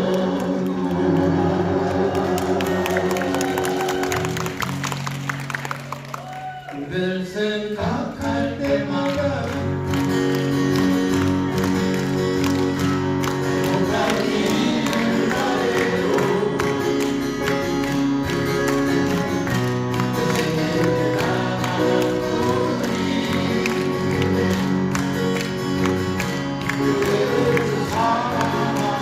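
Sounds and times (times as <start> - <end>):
acoustic guitars playing folk music: 0.0 - 29.0.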